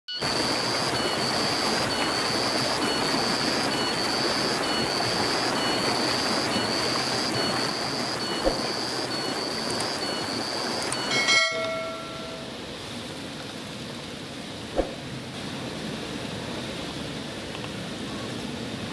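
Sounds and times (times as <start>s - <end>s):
stream rushing over rocks: 0.1s - 18.9s.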